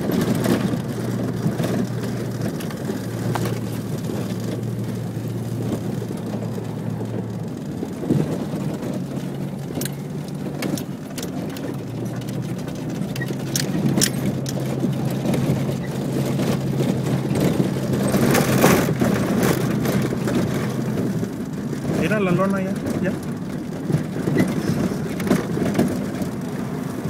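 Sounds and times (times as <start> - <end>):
debris ticking: 0.0 - 27.0
low engine hum: 0.0 - 27.0.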